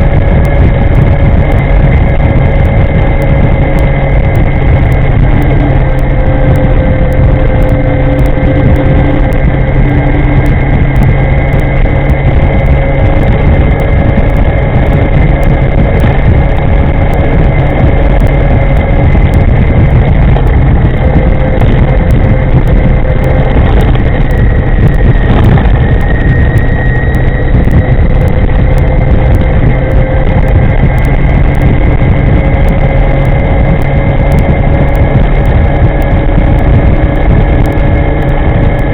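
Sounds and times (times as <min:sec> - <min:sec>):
high motor whine: 0:00.0 - 0:38.9
wind and road rumble: 0:00.0 - 0:38.9.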